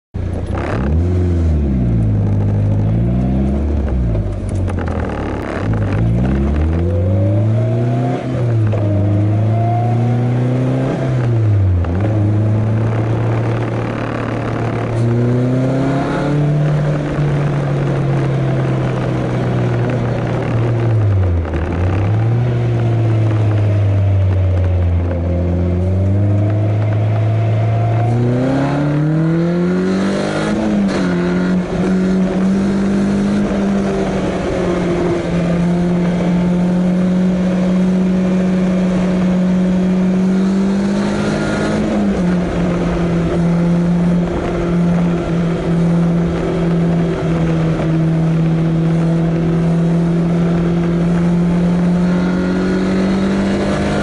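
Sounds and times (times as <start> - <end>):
car engine revving through gears: 0.2 - 54.0.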